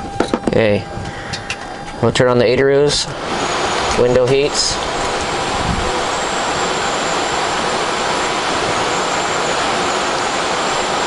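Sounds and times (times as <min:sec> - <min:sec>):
gas turbine whooshing with high whine: 0:00.0 - 0:11.0.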